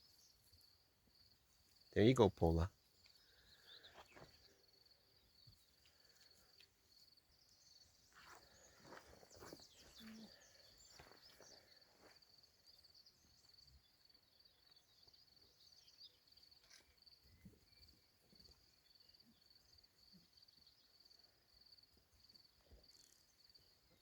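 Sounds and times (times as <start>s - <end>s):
cricket chirping: 0.0s - 1.9s, 2.8s - 24.0s.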